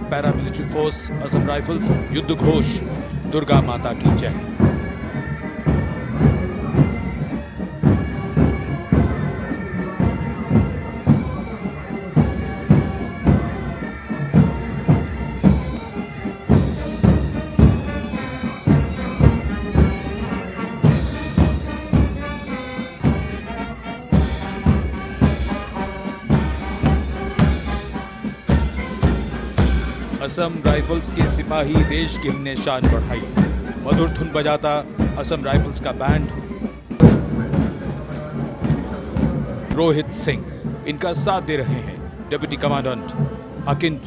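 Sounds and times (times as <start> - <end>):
bagpipes: 0.0 - 44.0
military band playing a march: 0.0 - 44.0
steady drum beat: 0.0 - 44.0.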